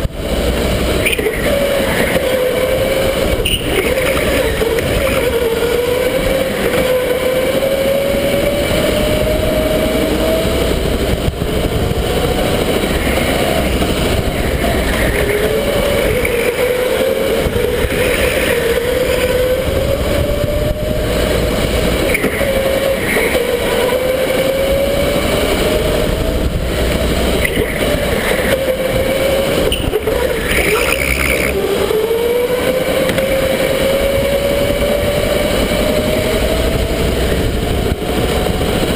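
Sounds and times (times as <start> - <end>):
electric go-kart motor whine: 0.0 - 38.9
steady rumble: 0.0 - 38.9.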